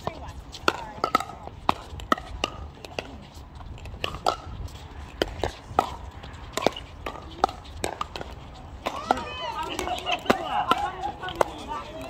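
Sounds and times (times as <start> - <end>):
paddles hitting a plastic ball: 0.6 - 12.0.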